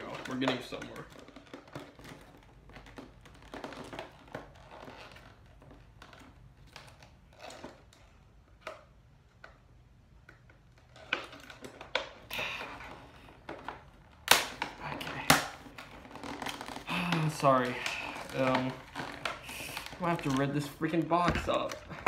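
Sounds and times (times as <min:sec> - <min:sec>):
plastic packaging cracking: 0:00.0 - 0:09.5, 0:10.3 - 0:22.0
packaging clicks and rustles: 0:00.0 - 0:22.0.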